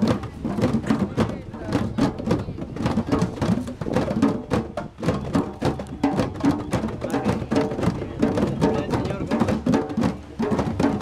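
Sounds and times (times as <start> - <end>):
djembes played by hand: 0.0 - 11.0.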